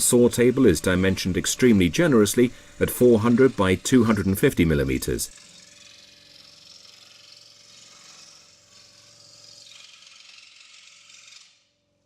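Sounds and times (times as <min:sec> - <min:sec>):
scroll saw motor humming: 0:00.0 - 0:11.8.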